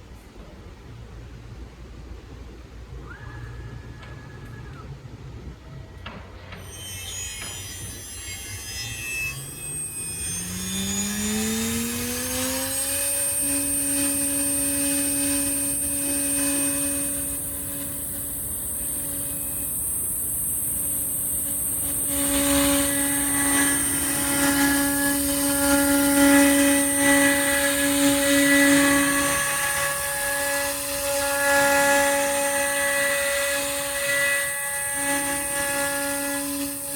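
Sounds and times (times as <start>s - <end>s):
router spindle whining: 6.5s - 36.9s
router bit cutting wood: 6.6s - 36.9s.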